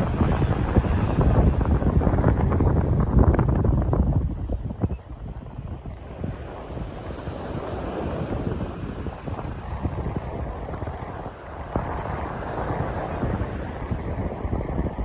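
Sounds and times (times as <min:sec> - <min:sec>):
ocean surf washing onto beach: 0:00.0 - 0:04.5, 0:05.3 - 0:15.0
wind buffeting microphone: 0:00.0 - 0:15.0.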